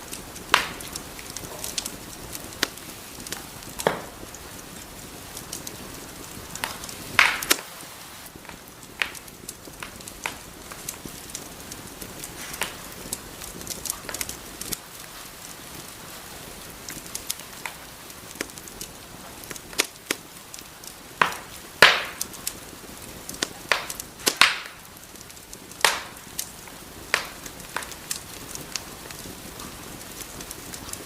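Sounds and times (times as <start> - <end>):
fire hissing: 0.0 - 31.0
wood fire crackling and popping: 0.0 - 31.0.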